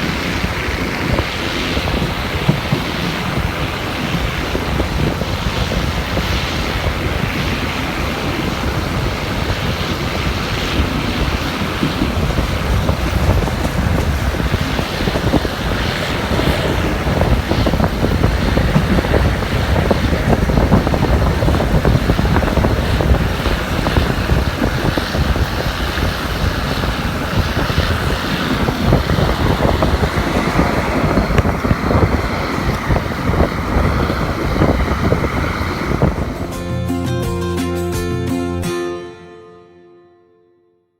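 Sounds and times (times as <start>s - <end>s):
wind buffeting microphone: 0.0s - 36.8s
moving train running noise: 0.0s - 38.8s.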